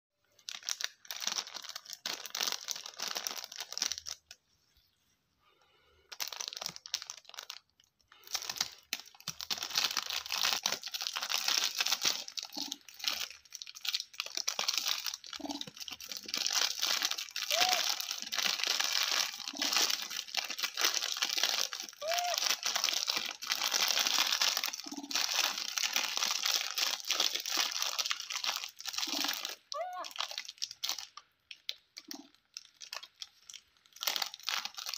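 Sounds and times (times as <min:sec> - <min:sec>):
plastic wrapper crackling and tearing: 0:00.2 - 0:04.4, 0:06.1 - 0:34.9.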